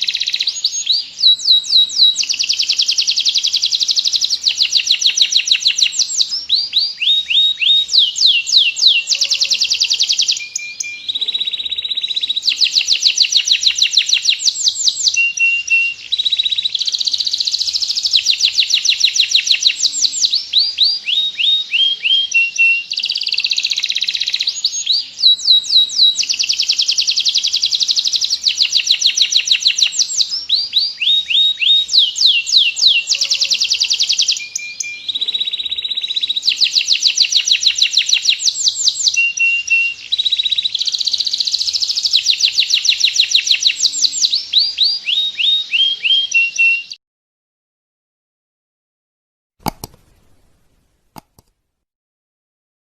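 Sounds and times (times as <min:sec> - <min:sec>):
canary singing in long rolls: 0:00.0 - 0:47.0.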